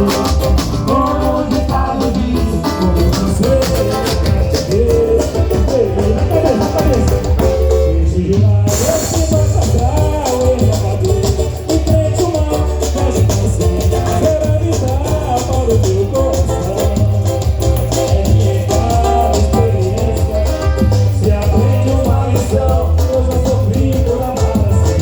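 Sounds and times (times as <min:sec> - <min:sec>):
samba music: 0:00.0 - 0:25.0.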